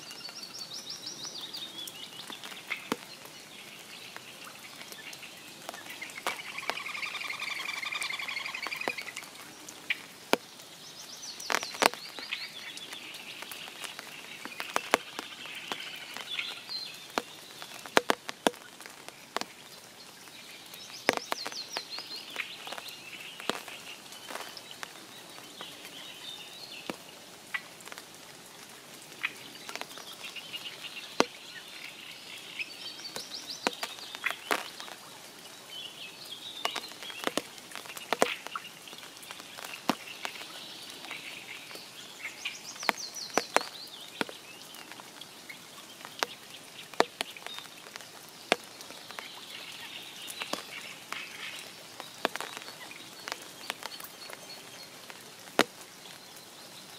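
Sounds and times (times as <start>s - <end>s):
birds singing: 0.0s - 28.0s, 29.1s - 56.9s
light rain hiss: 0.0s - 56.9s
loud single raindrops: 0.0s - 56.9s.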